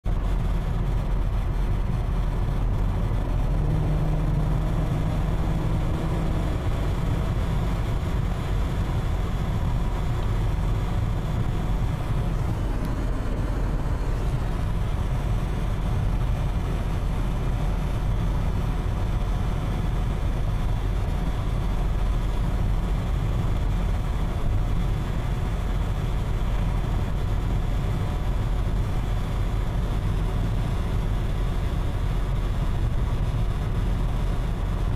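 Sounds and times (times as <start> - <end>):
car engine and road noise: 0.0 - 34.9.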